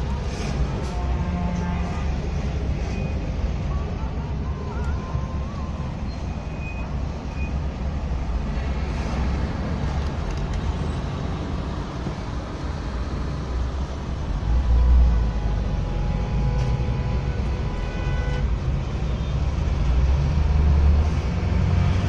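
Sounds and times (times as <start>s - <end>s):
heavy truck engines rumbling: 0.0s - 22.0s.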